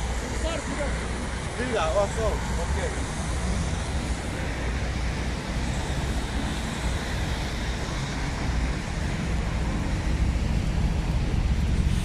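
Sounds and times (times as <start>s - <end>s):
traffic jam engines running: 0.0s - 12.0s
wind rumble on microphone: 0.0s - 12.0s.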